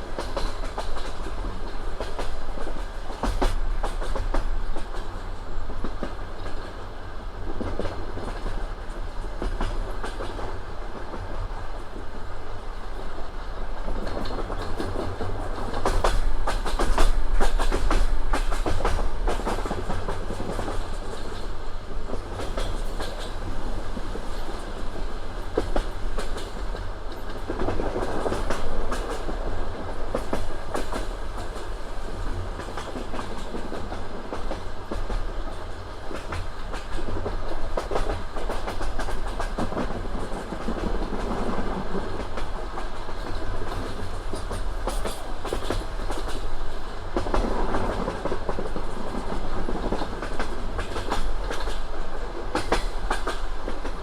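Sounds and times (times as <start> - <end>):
train rumble: 0.0 - 54.0
train wheels clickety-clack: 0.0 - 54.0.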